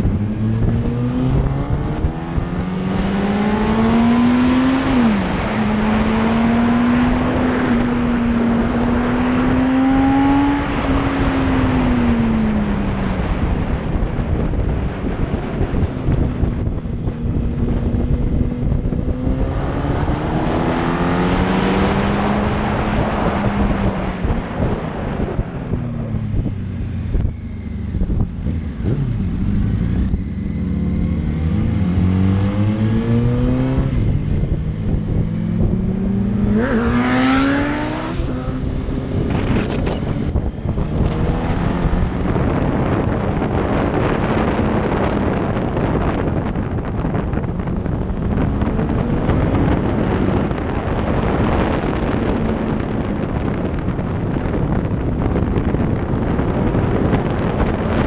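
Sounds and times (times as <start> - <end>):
motorcycle engine accelerating: 0.0 - 58.0
wind rush over microphone: 0.0 - 58.0.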